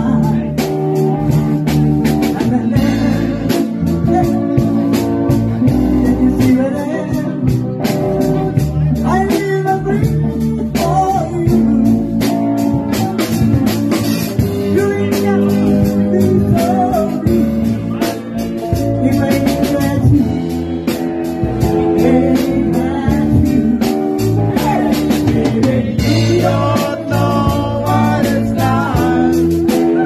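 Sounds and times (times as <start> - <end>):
person singing into a microphone: 0.0 - 21.0, 21.6 - 30.0
bass guitar: 0.0 - 30.0
electric guitars: 0.0 - 30.0
keyboard: 0.0 - 30.0.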